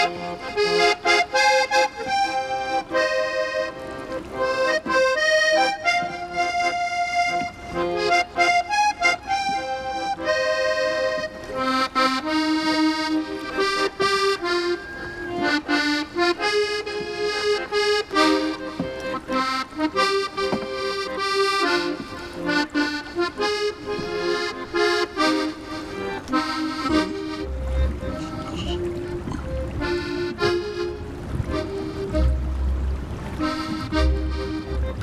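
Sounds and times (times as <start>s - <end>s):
accordion melody: 0.0s - 35.0s.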